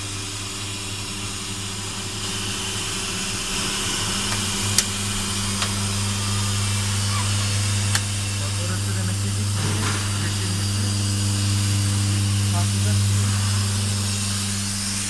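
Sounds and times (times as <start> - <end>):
welding machine hum and hiss: 0.0 - 15.0.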